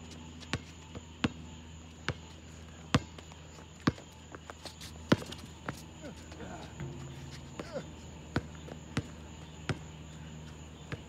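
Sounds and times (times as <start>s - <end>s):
basketball bouncing on asphalt: 0.2s - 6.0s, 6.7s - 11.0s.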